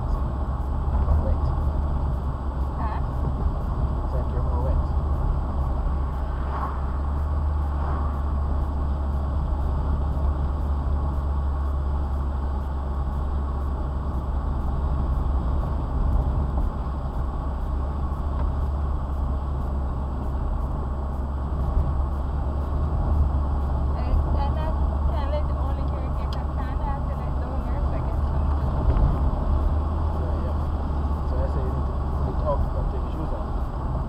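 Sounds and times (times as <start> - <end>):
car engine and tyre drone: 0.0 - 34.0.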